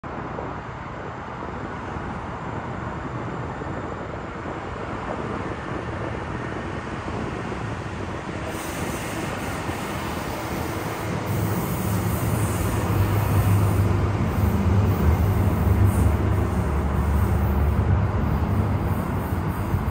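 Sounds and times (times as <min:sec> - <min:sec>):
light rail train passing: 0:00.0 - 0:19.9.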